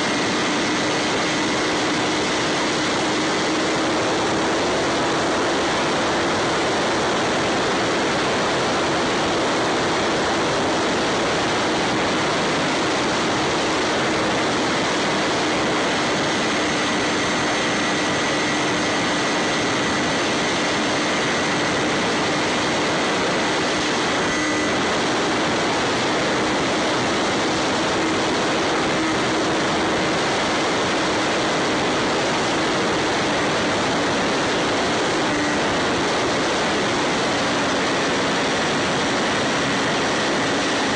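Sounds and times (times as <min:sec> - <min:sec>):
electric motor and propeller hum: 0:00.0 - 0:40.9
loud wind rush: 0:00.0 - 0:40.9.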